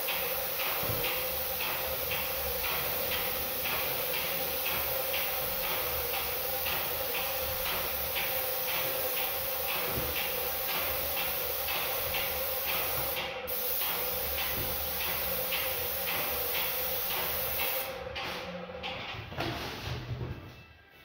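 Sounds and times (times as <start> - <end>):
spray gun hissing paint: 0.0 - 17.9.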